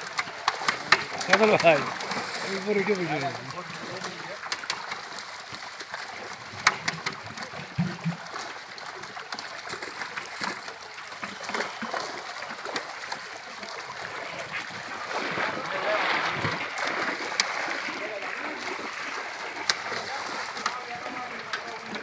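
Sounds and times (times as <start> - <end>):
fish splashing in water: 0.0 - 22.0.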